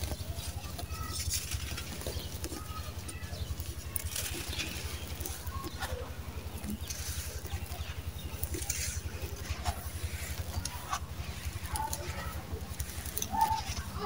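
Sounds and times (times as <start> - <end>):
sand-cement chunks crunching: 0.0 - 14.0
steady low hum: 0.0 - 14.0.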